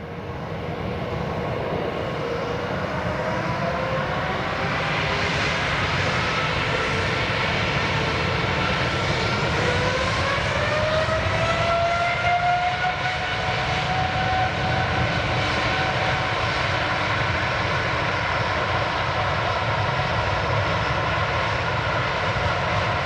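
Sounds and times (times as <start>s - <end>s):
jet engines roaring and whining: 0.0s - 23.0s.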